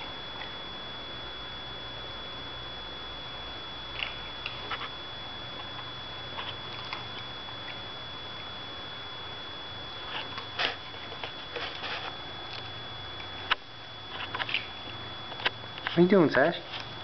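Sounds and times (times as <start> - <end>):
steady hum with high whine: 0.0 - 17.0.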